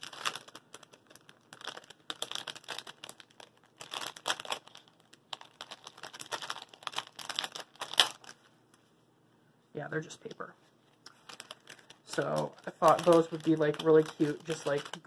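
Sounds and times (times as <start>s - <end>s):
plastic packaging crinkling: 0.0s - 8.5s, 10.2s - 15.0s.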